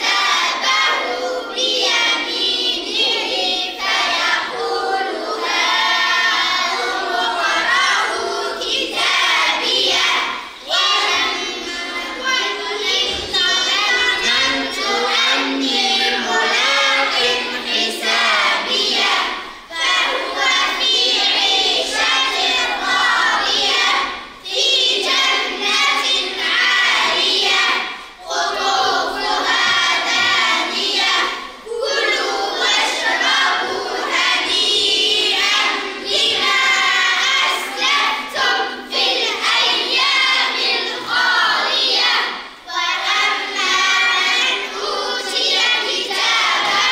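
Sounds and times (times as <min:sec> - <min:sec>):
children chanting in unison: 0:00.0 - 0:46.9.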